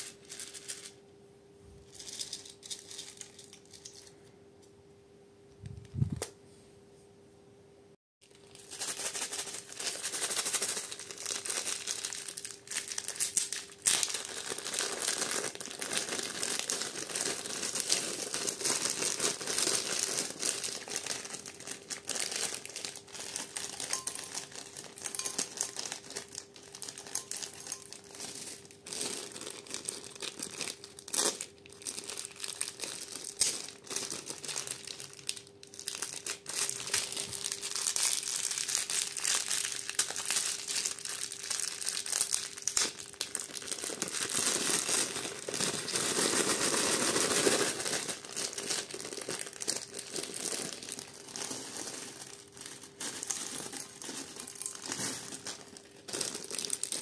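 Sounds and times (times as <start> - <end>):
plastic bags crinkling: 0.0 - 1.0, 1.8 - 4.2, 8.2 - 57.0.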